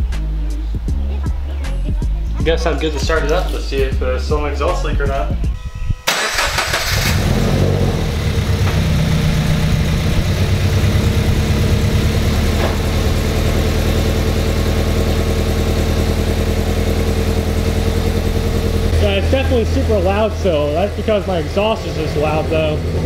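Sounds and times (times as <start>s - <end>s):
car engine starting and idling: 0.0s - 5.4s, 6.0s - 23.0s.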